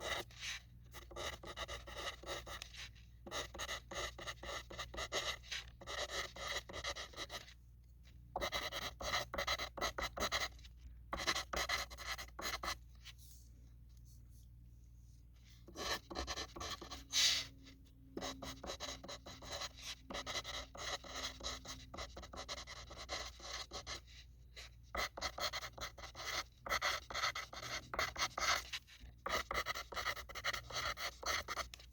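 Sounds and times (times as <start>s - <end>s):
pencil writing on paper: 0.0s - 7.6s, 8.4s - 13.2s, 15.4s - 17.5s, 18.1s - 31.8s.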